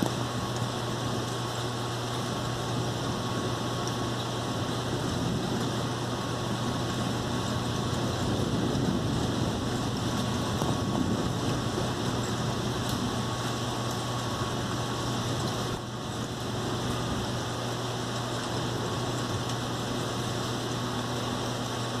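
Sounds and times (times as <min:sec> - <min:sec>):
constant low hum: 0:00.0 - 0:22.0
steady rain: 0:00.0 - 0:22.0.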